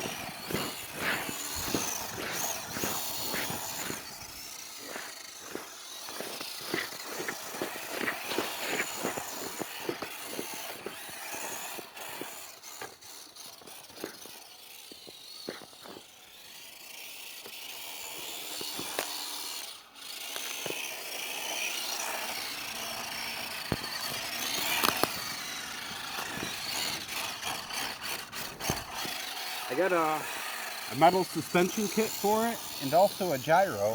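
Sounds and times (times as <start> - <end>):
electric motor whining: 0.0 - 33.9.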